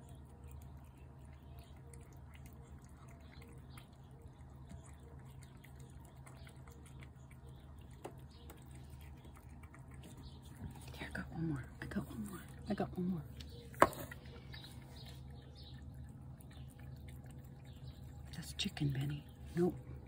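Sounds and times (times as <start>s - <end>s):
cat eating wet food: 0.0s - 20.0s.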